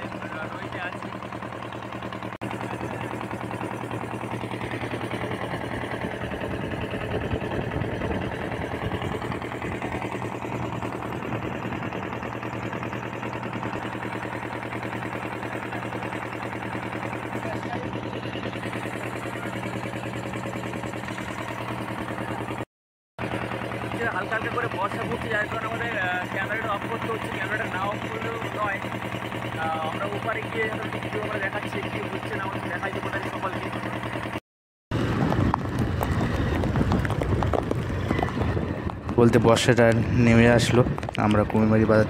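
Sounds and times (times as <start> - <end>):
boat engine puttering: 0.0 - 22.6, 23.2 - 42.0.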